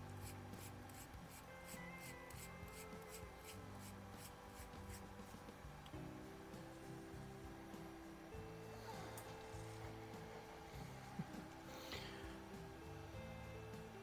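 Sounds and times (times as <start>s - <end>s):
faint rhythmic scratching of threads: 0.0s - 14.0s
quiet background music: 0.0s - 14.0s.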